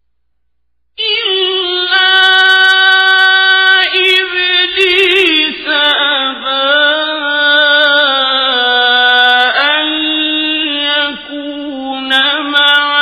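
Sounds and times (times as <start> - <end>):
man chanting melodic recitation: 1.0 - 13.0.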